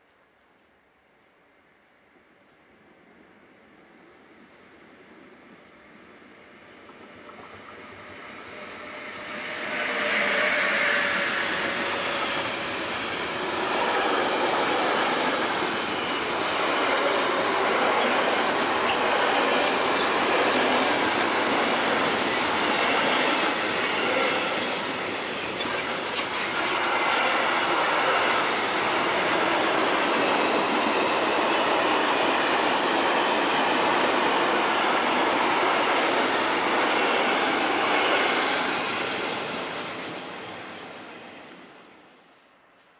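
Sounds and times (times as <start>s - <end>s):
train wheels on rail: 6.1s - 42.9s.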